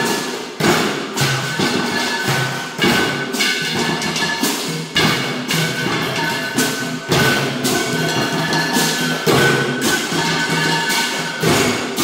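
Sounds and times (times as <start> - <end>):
tin-can percussion strikes: 0.0 - 12.0.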